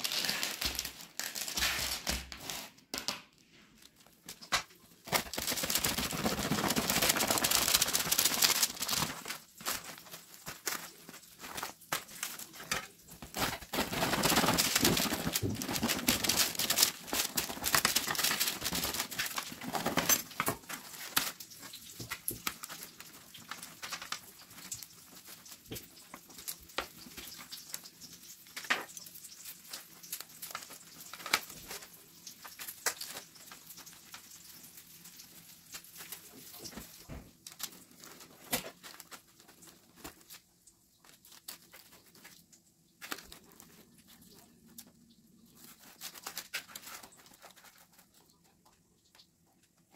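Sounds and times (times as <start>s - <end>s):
bread crust crackling: 0.0s - 49.9s.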